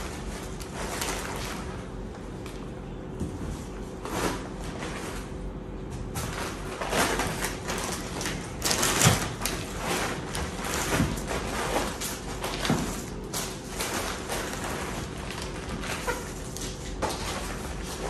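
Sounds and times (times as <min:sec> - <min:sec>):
shopping bags and groceries rustling: 0:00.0 - 0:18.0.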